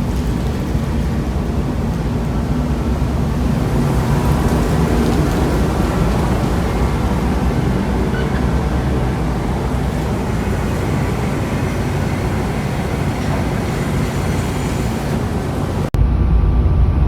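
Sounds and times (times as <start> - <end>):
low road rumble: 0.0 - 17.0
wind rush on microphone: 0.0 - 17.0.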